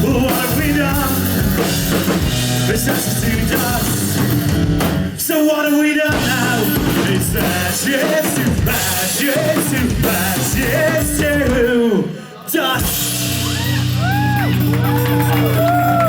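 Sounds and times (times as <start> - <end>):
live rock band playing: 0.0 - 11.9, 12.8 - 16.0.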